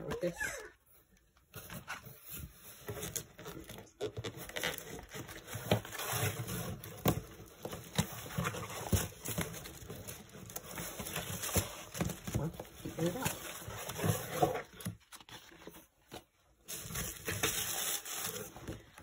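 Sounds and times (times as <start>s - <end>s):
papers rustling in cardboard box: 1.4s - 19.0s.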